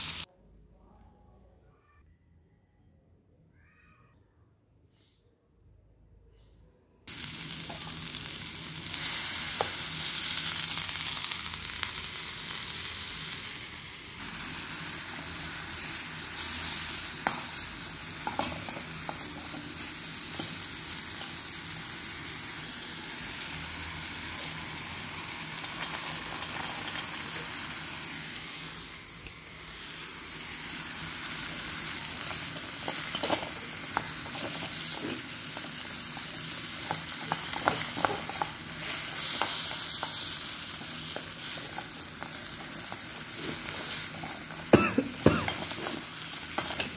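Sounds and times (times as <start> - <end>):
vegetables sizzling in hot oil: 0.0 - 0.3, 7.1 - 46.9.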